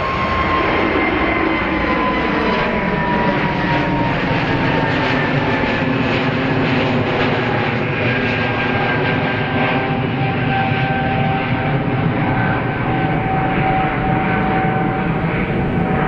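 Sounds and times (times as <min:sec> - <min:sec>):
aircraft engines roaring: 0:00.0 - 0:16.0.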